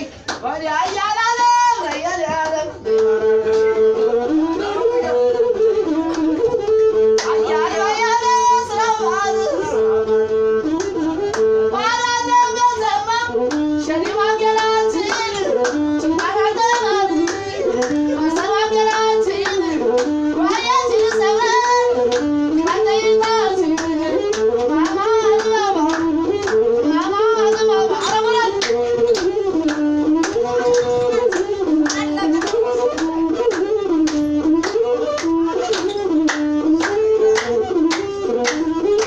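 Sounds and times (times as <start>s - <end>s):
hand-clapping: 0.2s - 3.6s, 6.0s - 7.6s, 10.7s - 11.5s, 13.4s - 39.0s
bowed fiddle melody: 2.2s - 39.0s.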